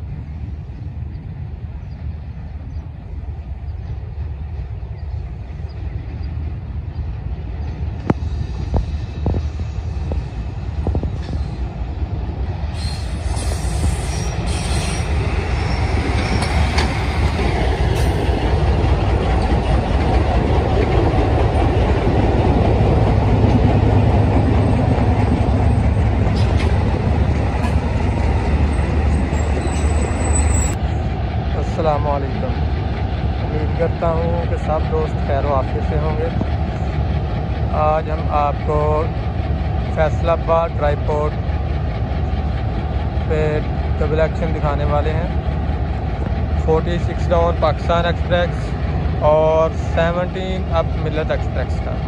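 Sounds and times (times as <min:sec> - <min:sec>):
locomotive engine rumble: 0:00.0 - 0:52.0
train wheels on rails: 0:02.3 - 0:52.0.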